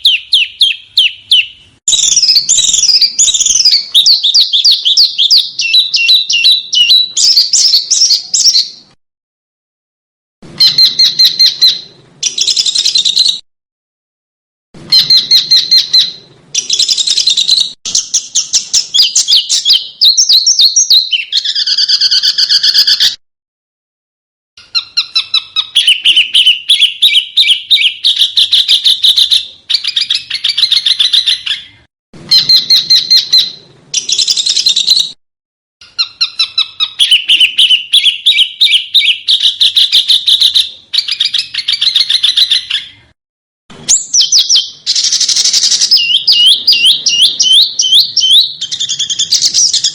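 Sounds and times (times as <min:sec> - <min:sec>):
songbird trilling: 0:00.0 - 0:08.8, 0:10.6 - 0:13.4, 0:14.9 - 0:23.2, 0:24.6 - 0:35.2, 0:35.8 - 0:43.1, 0:43.9 - 0:49.9.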